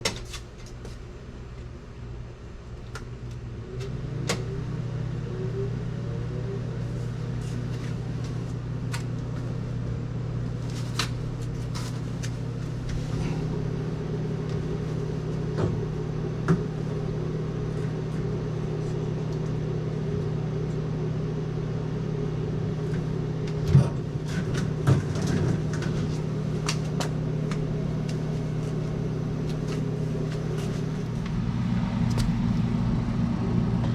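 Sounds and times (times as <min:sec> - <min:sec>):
refrigeration unit humming: 0:00.0 - 0:33.9.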